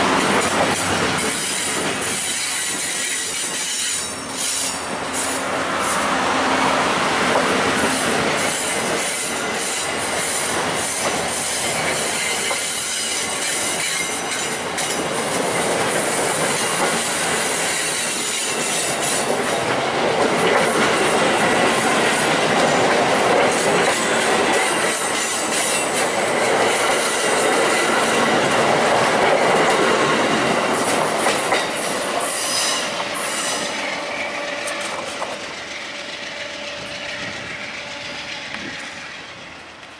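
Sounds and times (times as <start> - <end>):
train wheel squeal: 0.0 - 6.7, 7.7 - 19.7, 20.4 - 28.5, 30.7 - 39.9
train wheels clattering over rails: 0.0 - 39.9.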